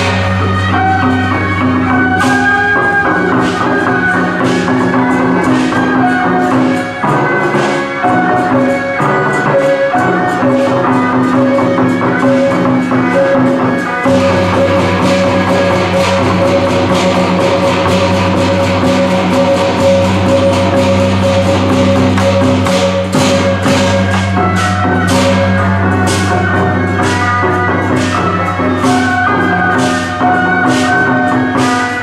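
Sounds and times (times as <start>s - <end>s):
sharp metallic strikes: 0.0s - 8.9s, 13.4s - 32.0s
percussion: 0.0s - 32.0s
procession music: 0.0s - 32.0s.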